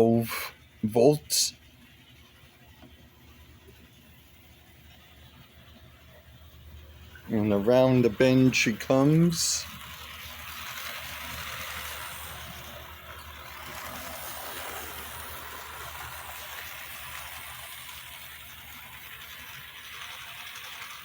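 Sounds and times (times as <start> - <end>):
model train motor whirring: 0.0 - 21.0.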